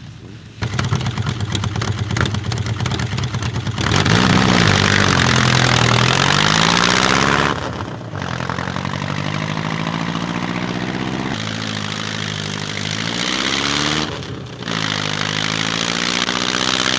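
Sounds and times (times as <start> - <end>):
car engine revving: 0.6 - 16.9.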